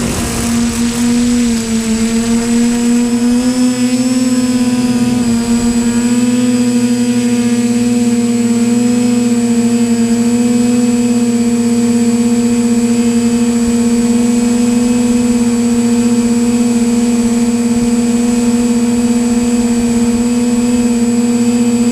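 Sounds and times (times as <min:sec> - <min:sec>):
drone propellers humming: 0:00.0 - 0:21.9
thin high whine: 0:00.0 - 0:21.9.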